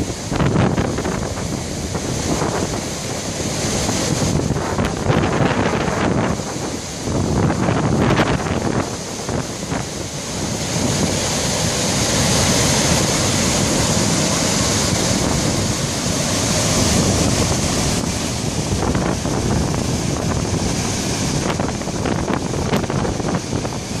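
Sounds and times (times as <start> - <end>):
waterfall rushing: 0.0 - 24.0
wind buffeting microphone: 0.0 - 24.0.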